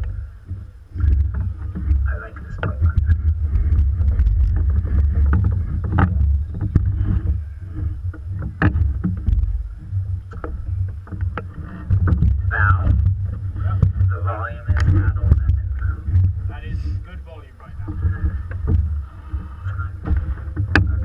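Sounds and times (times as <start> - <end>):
boat and oars knocking: 0.0 - 21.0
wind rumbling on microphone: 0.0 - 21.0.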